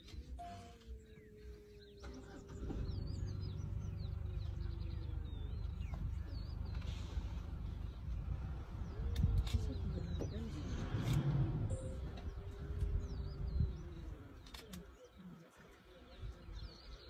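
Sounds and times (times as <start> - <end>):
small birds chirping: 0.0 - 17.0
vehicle engine rumble: 0.0 - 17.0.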